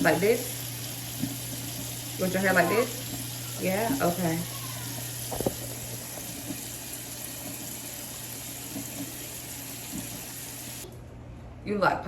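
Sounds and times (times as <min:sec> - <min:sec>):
water running from a tap: 0:00.0 - 0:10.9.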